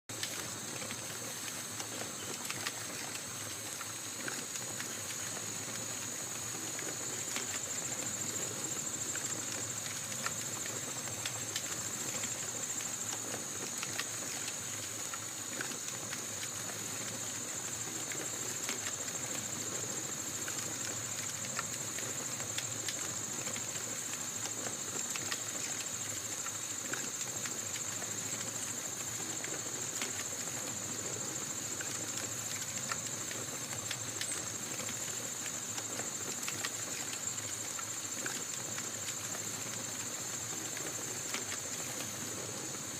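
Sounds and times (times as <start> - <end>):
campfire crackling: 0.1 - 42.9
night insects chirring: 0.1 - 42.9.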